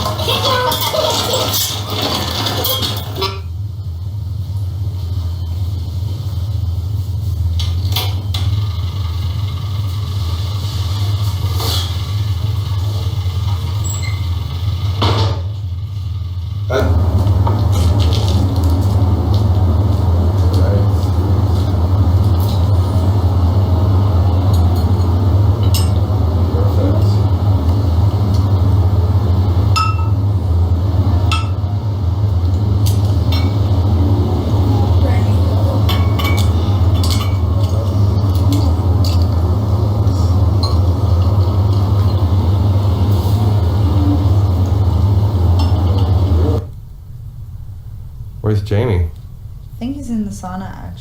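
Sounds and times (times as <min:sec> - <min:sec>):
low hum: 0:00.0 - 0:51.0.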